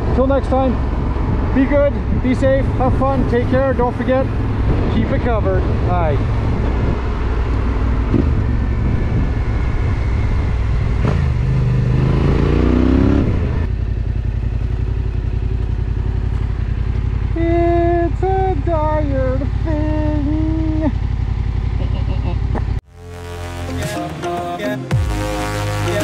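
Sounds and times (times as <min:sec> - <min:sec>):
motorcycle engine revving: 0:00.0 - 0:23.4.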